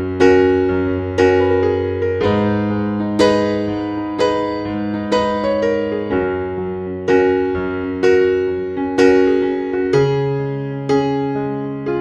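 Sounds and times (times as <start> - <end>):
piano playing slow chords: 0.0 - 12.0.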